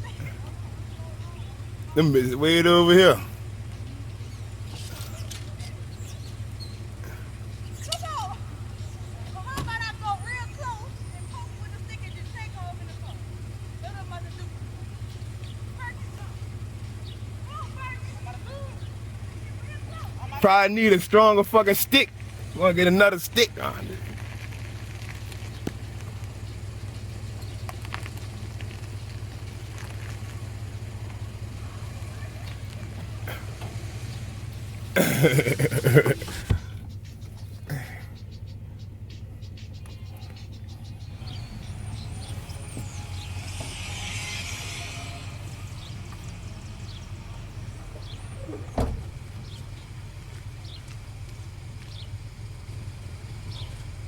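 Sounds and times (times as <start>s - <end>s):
low engine hum: 0.0s - 54.0s.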